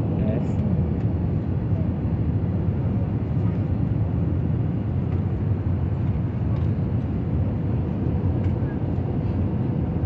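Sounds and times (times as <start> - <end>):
jet airliner cabin roar: 0.0 - 10.0.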